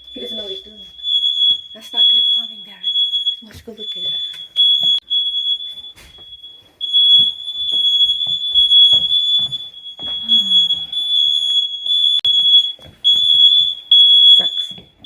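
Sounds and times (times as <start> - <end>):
high-pitched alarm tone: 0.0 - 15.0.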